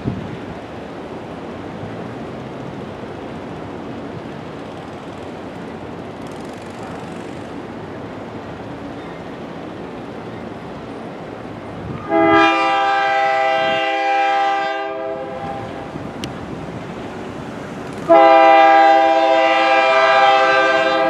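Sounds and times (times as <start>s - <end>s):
diesel locomotive engine running: 0.2s - 21.0s.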